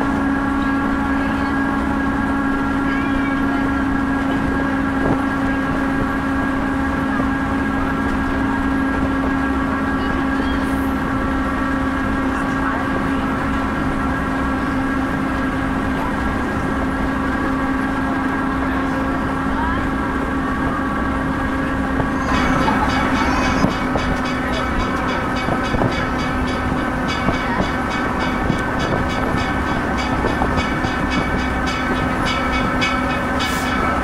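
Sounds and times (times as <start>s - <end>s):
railcar drone: 0.0s - 34.0s.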